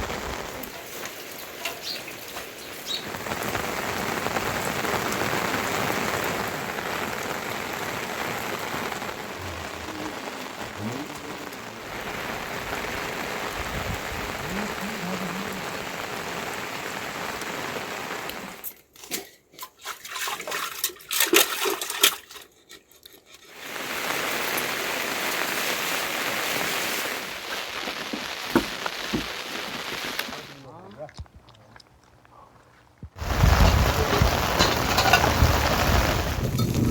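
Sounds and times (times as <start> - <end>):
rain hiss: 0.0 - 18.8, 23.5 - 30.8, 33.2 - 36.9.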